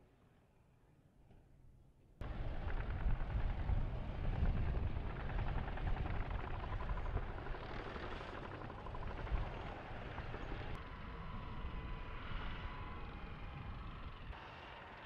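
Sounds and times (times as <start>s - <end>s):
tank engine and tracks rumble: 2.2s - 15.0s.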